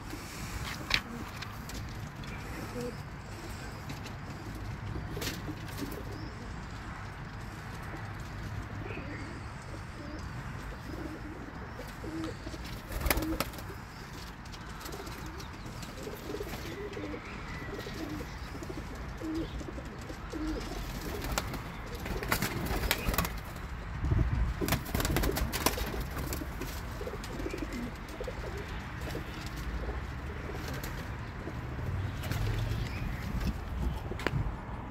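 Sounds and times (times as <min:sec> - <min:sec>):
doves cooing: 0:00.0 - 0:23.6, 0:24.6 - 0:34.6.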